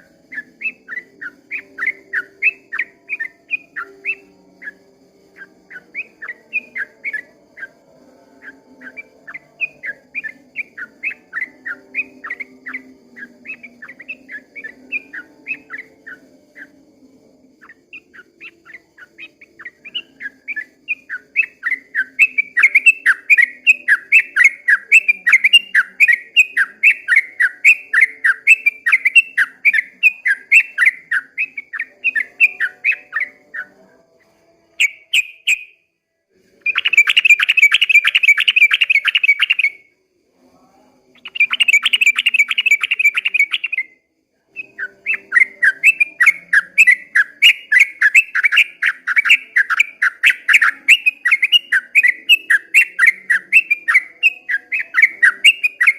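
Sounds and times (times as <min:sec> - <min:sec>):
bulbul chattering song: 0:00.0 - 0:40.0, 0:41.0 - 0:55.9.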